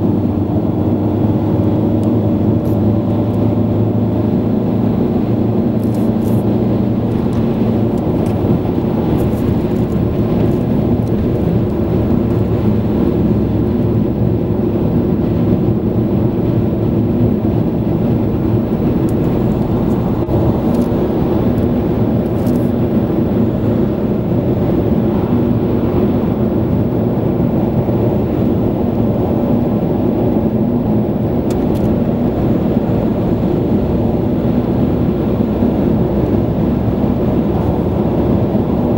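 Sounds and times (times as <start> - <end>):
car cabin road rumble: 0.0 - 38.9.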